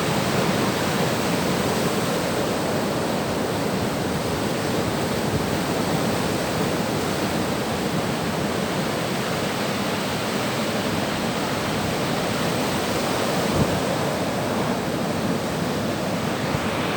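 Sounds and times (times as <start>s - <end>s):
sea surf washing on shore: 0.0s - 16.9s.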